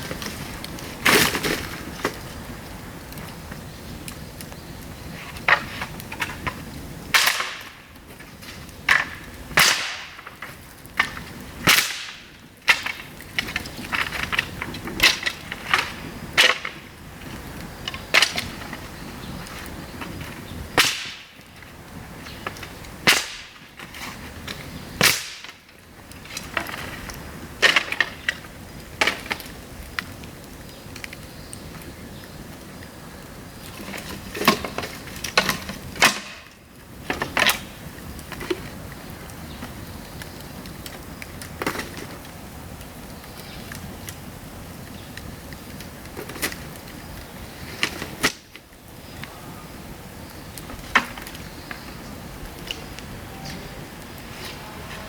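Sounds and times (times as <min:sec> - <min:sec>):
bamboo cracking and bursting: 0:00.0 - 0:54.9
fire hiss: 0:00.0 - 0:55.0.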